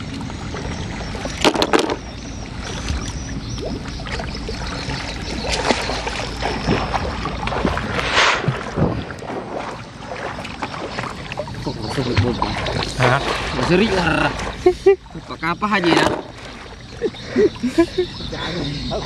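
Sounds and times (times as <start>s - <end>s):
water splash: 0.0s - 17.0s
water lapping against plastic basin: 0.0s - 17.8s.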